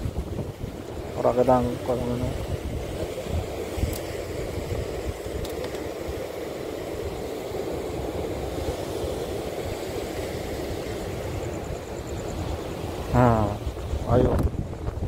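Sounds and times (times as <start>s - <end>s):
sea surf rushing against rocks: 0.0s - 15.0s
wind buffeting microphone: 0.0s - 15.0s.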